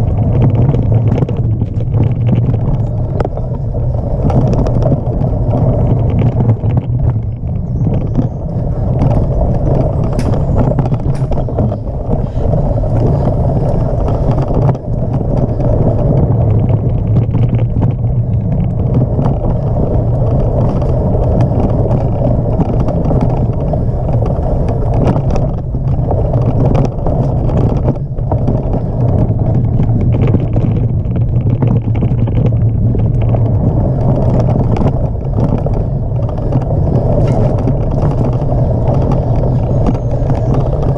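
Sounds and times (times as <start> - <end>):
bike knocks and rattles: 0.0 - 40.9
tyre and wind rumble: 0.0 - 40.9.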